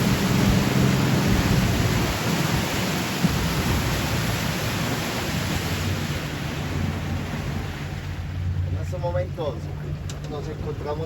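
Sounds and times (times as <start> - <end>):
low engine hum: 0.0 - 11.0
water rushing: 0.0 - 11.0
wind: 0.0 - 11.0.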